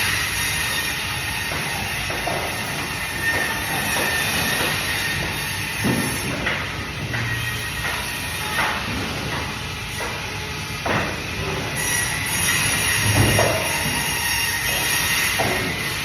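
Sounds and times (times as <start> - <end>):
band saw cutting fish: 0.0 - 16.0.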